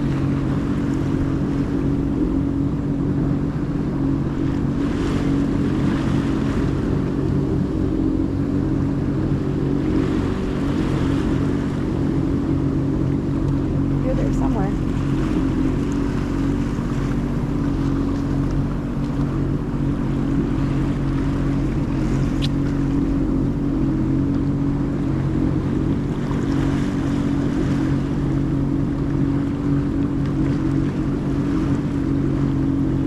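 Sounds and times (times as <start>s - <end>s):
jet ski engine droning: 0.0s - 33.0s
water and wind noise: 0.0s - 33.0s.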